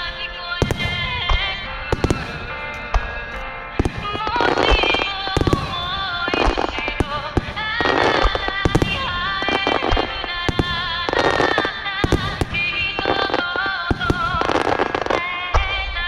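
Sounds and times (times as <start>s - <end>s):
fireworks bursting with bangs: 0.0s - 16.0s
fireworks crackling: 0.0s - 16.0s
music: 0.0s - 16.0s.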